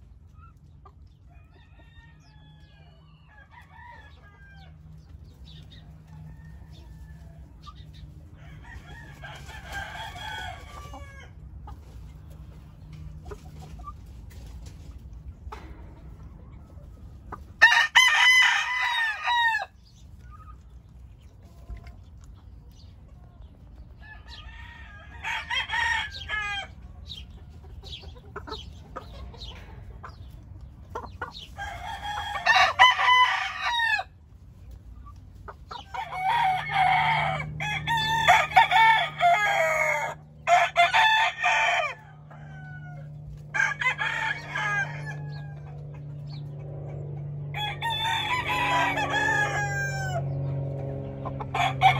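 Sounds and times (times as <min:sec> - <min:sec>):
roosters crowing: 0:01.2 - 0:13.8, 0:14.6 - 0:21.9, 0:23.8 - 0:51.9.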